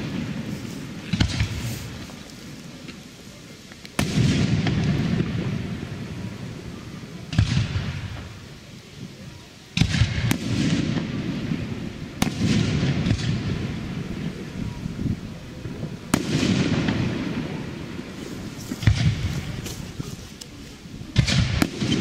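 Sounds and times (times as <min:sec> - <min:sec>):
firework shells booming: 0:00.0 - 0:03.1, 0:03.7 - 0:08.6, 0:09.7 - 0:20.2, 0:21.1 - 0:22.0.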